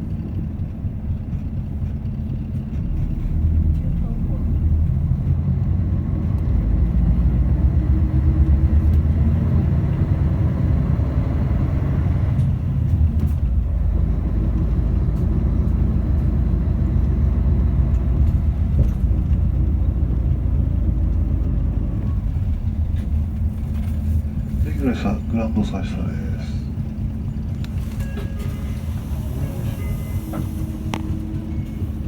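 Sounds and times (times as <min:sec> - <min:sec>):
bus diesel engine running: 0:00.0 - 0:32.0.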